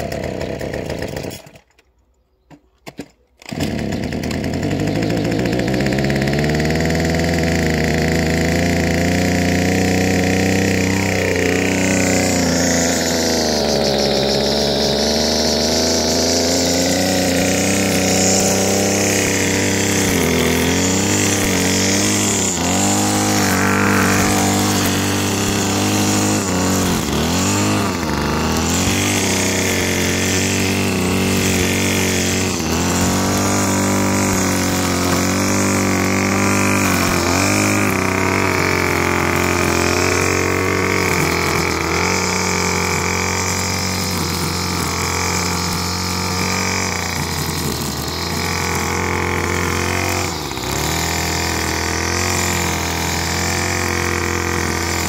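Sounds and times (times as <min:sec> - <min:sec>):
string trimmer engine running: 0:00.0 - 0:01.8, 0:03.0 - 0:55.0.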